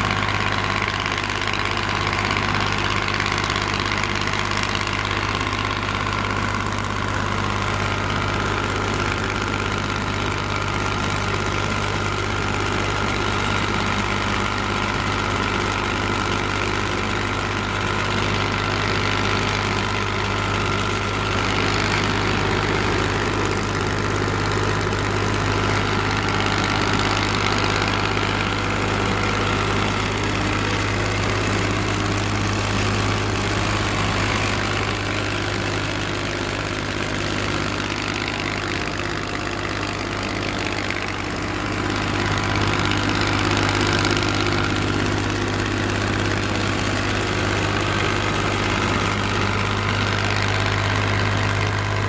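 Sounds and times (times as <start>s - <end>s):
excavator diesel engine: 0.0s - 52.0s.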